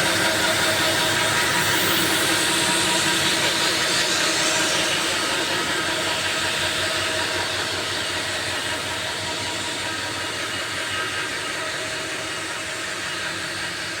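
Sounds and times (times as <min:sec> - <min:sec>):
cnc machine hissing: 0:00.0 - 0:13.9.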